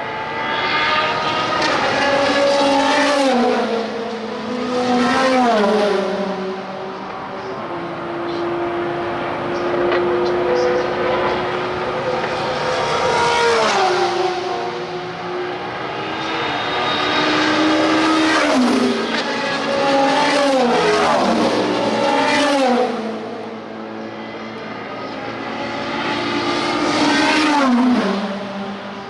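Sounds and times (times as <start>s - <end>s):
race cars passing at speed: 0.0s - 29.0s.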